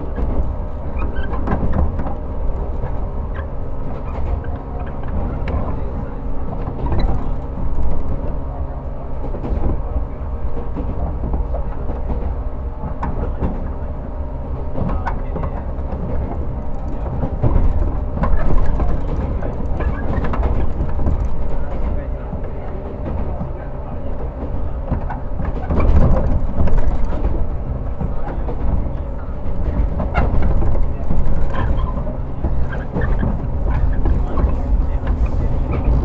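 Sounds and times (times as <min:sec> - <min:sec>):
heavy train rumble: 0:00.0 - 0:36.0
train motors humming: 0:00.0 - 0:36.0
wheels clacking over rail joints: 0:00.0 - 0:36.0.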